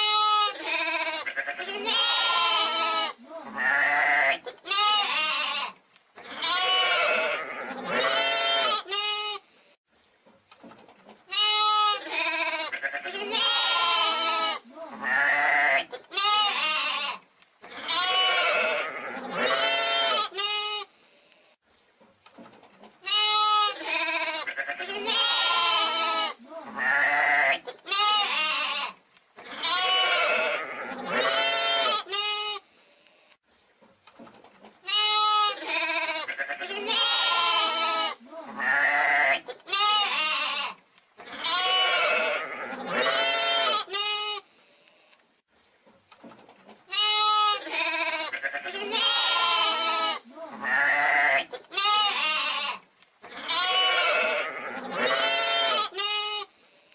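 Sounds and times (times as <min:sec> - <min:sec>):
young sheep bleating: 0:00.0 - 0:09.4, 0:11.3 - 0:20.9, 0:23.0 - 0:32.6, 0:34.8 - 0:44.5, 0:46.9 - 0:56.5.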